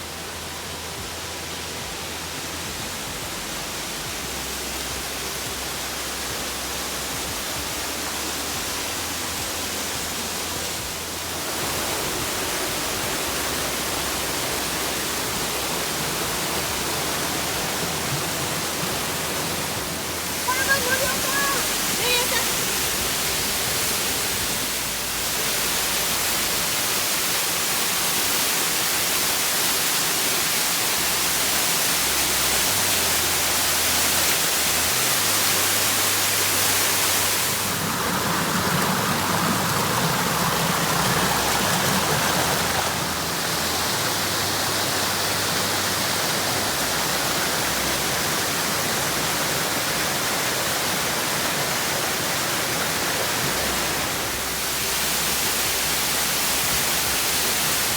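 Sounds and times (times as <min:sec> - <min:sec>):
waterfall: 0:00.0 - 0:57.9.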